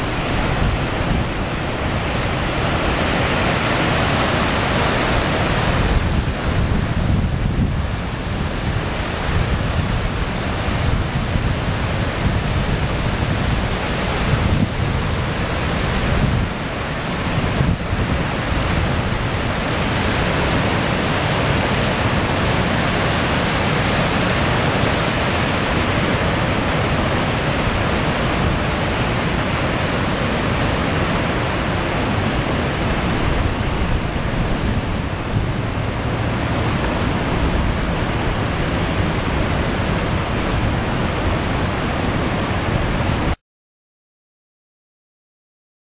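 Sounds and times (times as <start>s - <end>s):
floodwater rushing: 0.0s - 43.4s
wind buffeting microphone: 0.0s - 43.4s.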